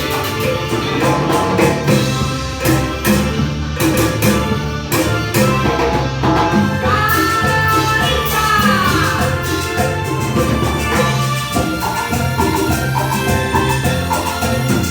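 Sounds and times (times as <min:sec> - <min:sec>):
band playing live: 0:00.0 - 0:14.9
bass line: 0:00.0 - 0:14.9
percussion: 0:00.0 - 0:14.9.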